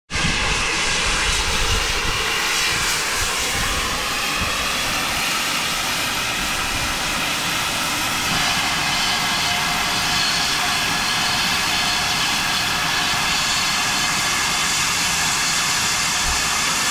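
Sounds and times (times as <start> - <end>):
steam locomotive hissing roar: 0.1 - 16.9.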